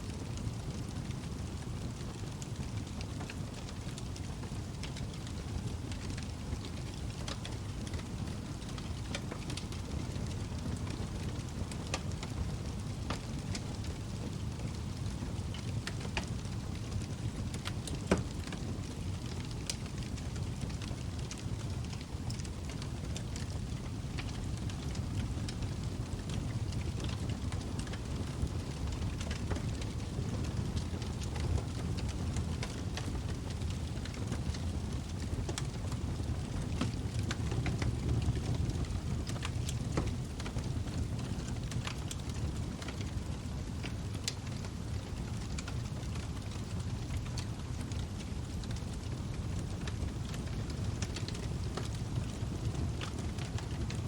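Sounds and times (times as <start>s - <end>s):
fire crackles and pops: 0.0s - 54.0s
low rush of flames: 0.1s - 54.0s.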